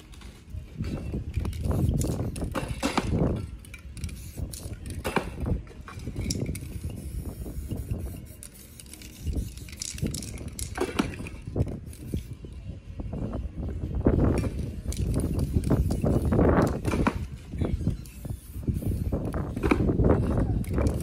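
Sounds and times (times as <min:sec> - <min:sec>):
spray paint can hissing: 0:01.0 - 0:12.7, 0:14.2 - 0:21.0.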